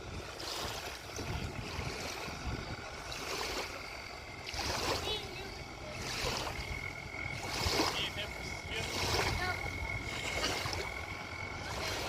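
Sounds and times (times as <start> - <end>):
lake water splashing: 0.0 - 12.0
wind hiss: 0.0 - 12.0.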